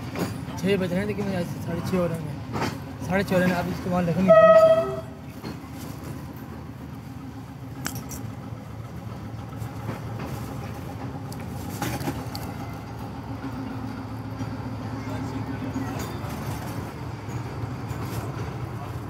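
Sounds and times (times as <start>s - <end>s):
train low hum: 0.0s - 19.0s.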